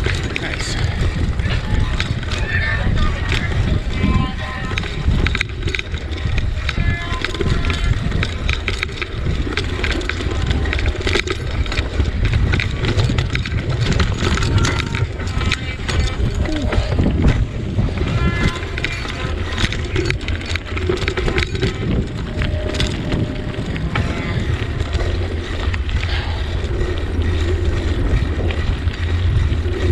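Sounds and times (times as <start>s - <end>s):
bicycle clicks and rattles: 0.0s - 29.9s
wind rumbling on microphone: 0.0s - 29.9s.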